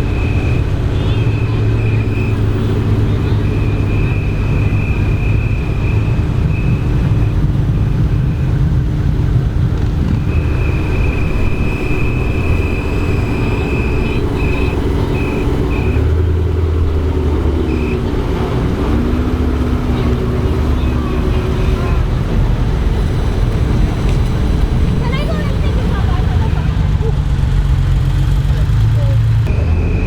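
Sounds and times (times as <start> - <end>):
car engines rumbling: 0.0 - 30.0.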